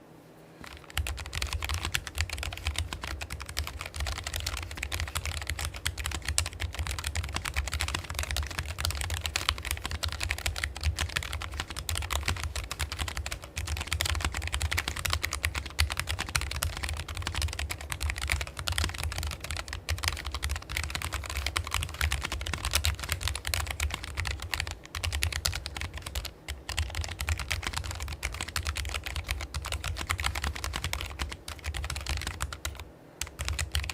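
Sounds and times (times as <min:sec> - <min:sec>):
fast keyboard typing: 0:00.6 - 0:33.9.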